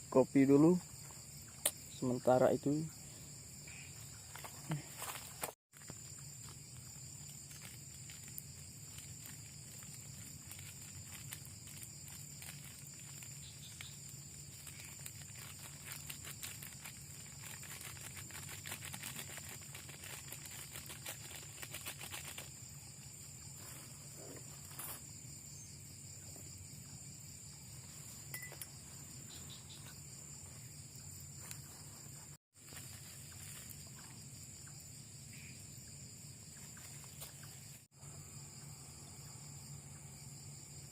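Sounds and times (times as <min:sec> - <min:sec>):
night insects trilling: 0:00.0 - 0:40.9
rapid insect ticking: 0:00.0 - 0:40.9.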